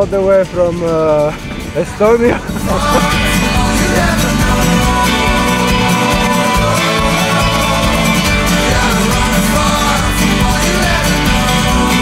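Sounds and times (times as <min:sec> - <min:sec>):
background music with plucked guitar: 0:00.0 - 0:12.0.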